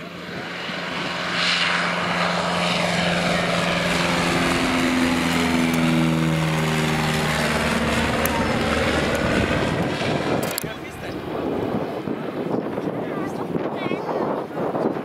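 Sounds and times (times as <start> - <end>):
propeller plane passing overhead: 0.0 - 15.0.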